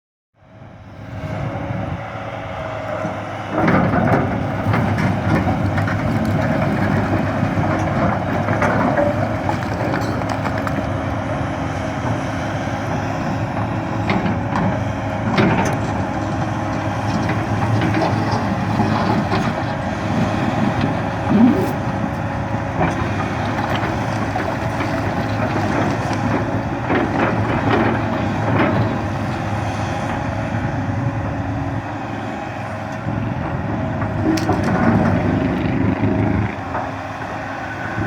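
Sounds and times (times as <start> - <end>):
excavator diesel engine running: 0.5 - 38.0.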